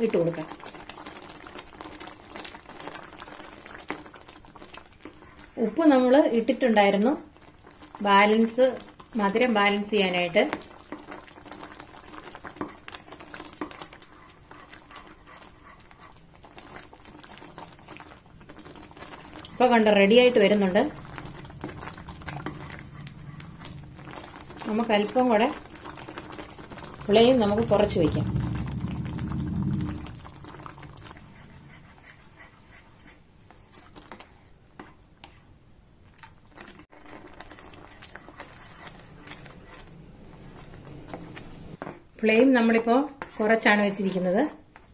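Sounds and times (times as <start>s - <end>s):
ketchup bubbling in a pan: 0.0s - 35.5s, 36.1s - 42.1s.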